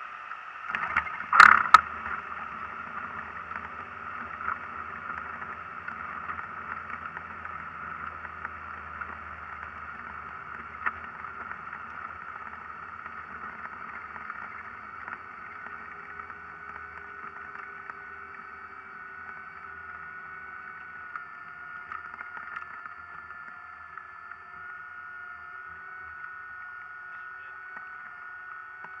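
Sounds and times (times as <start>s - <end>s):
aircraft engines and propellers: 0.0s - 29.0s.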